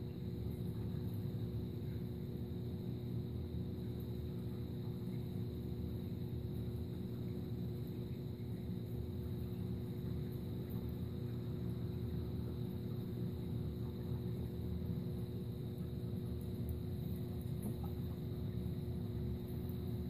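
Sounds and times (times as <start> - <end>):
aquarium pumps humming: 0.0 - 20.0
faint high whine: 0.0 - 20.0.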